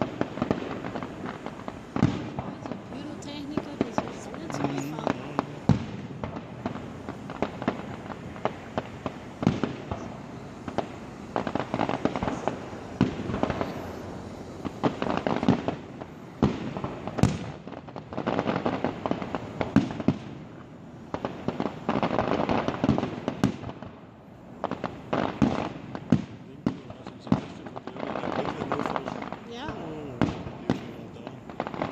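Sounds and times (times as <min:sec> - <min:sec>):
fireworks bangs: 0:00.0 - 0:31.9
fireworks crackling: 0:00.0 - 0:31.9.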